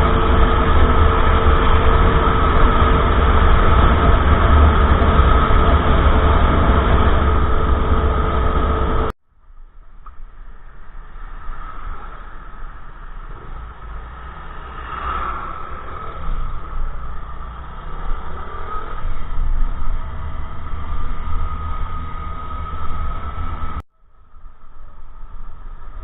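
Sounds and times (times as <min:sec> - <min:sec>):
minibike engine running: 0:00.0 - 0:09.1, 0:11.0 - 0:26.0
wind rumble on microphone: 0:00.0 - 0:26.0.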